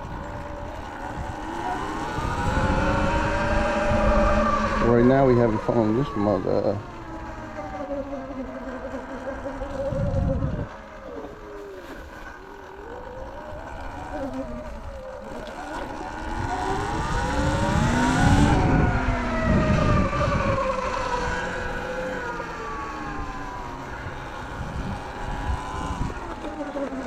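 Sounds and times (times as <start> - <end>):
electric dirt bike motor whining: 0.0 - 27.0
wind rumble on microphone: 0.0 - 27.0.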